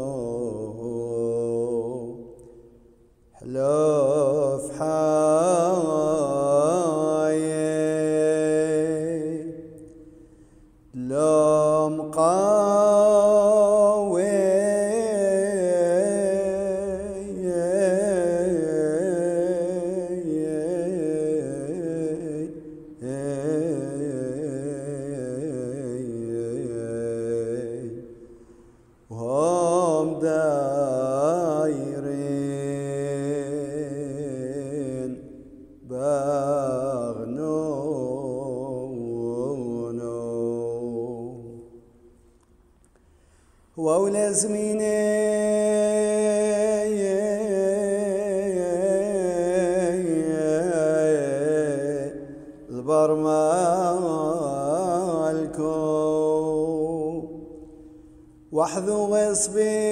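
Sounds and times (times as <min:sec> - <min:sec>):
male liturgical chanting: 0:00.0 - 0:10.2, 0:10.9 - 0:28.4, 0:29.1 - 0:41.9, 0:43.7 - 0:59.9.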